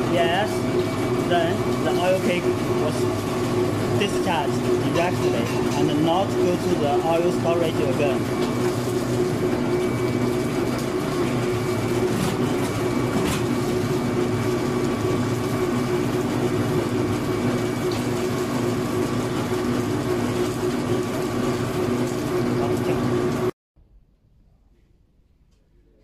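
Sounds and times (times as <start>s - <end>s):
machine humming: 0.0s - 23.6s.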